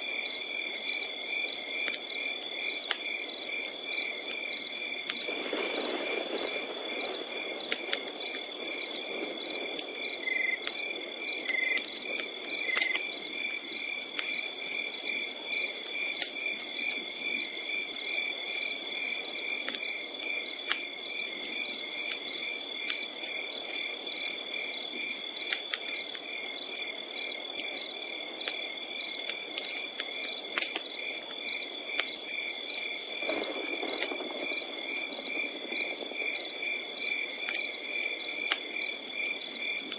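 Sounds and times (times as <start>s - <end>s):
campfire popping and crackling: 0.0s - 39.9s
crickets chirping: 0.0s - 39.9s.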